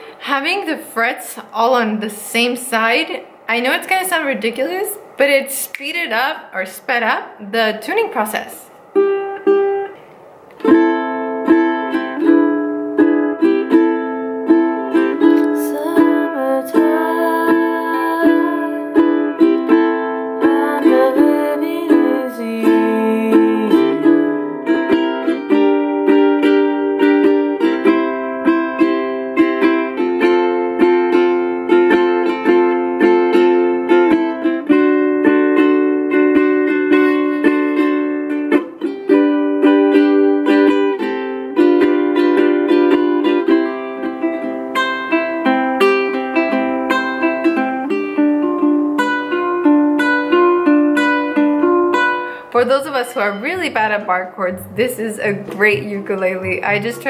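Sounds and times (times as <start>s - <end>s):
ukulele strumming chords: 8.8s - 57.0s.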